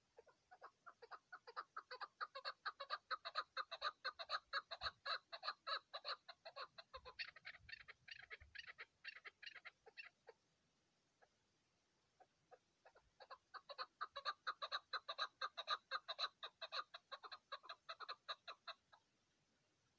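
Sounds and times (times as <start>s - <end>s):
partridge chuck calls: 0.0s - 10.4s, 12.2s - 19.1s.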